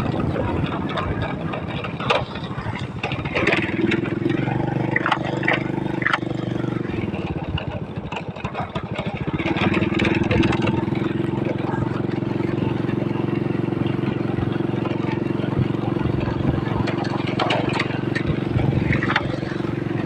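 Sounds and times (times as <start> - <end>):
motorcycle engine revving: 0.0 - 20.0
sharp knocks and rattles: 0.0 - 20.0.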